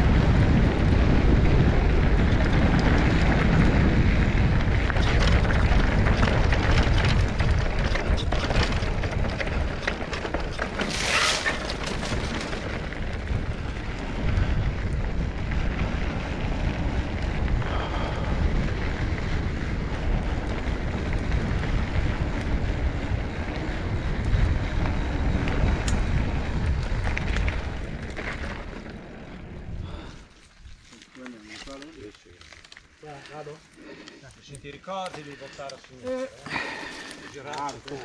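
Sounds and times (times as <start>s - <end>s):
wind buffeting microphone: 0.0s - 31.0s, 32.9s - 38.0s.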